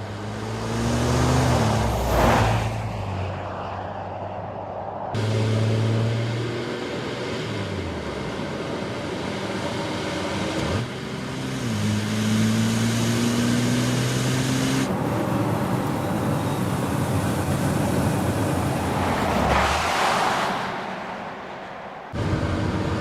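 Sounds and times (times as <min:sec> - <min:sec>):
car engine humming: 0:00.0 - 0:23.0
road and tyre noise: 0:00.0 - 0:23.0.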